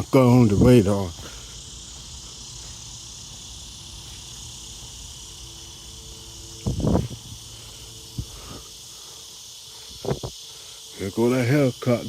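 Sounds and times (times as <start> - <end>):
crickets and insects chirring: 0.0 - 12.0.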